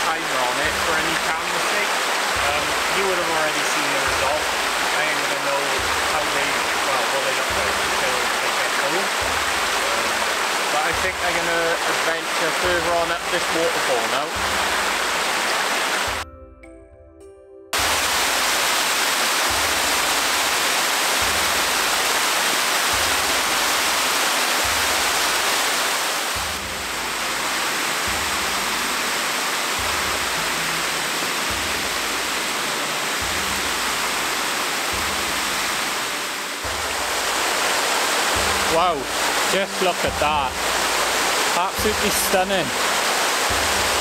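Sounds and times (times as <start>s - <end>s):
waterfall rushing over rocks: 0.0s - 16.2s, 17.8s - 44.0s.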